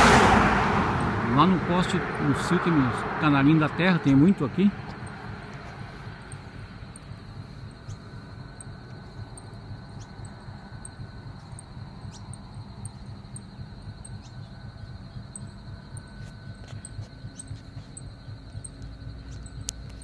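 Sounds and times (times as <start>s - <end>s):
insect trill: 0.0s - 20.0s
low background rumble: 0.0s - 20.0s
high chirps: 3.8s - 20.0s.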